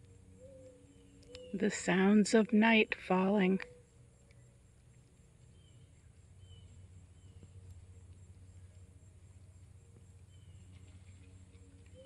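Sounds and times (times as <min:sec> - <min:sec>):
bird chirping: 0:00.0 - 0:02.2, 0:03.5 - 0:12.0
low steady hum: 0:00.0 - 0:12.0.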